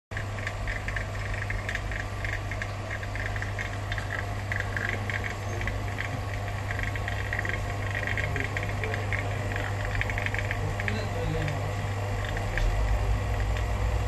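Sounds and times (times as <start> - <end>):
machine low hum: 0.1 - 14.0.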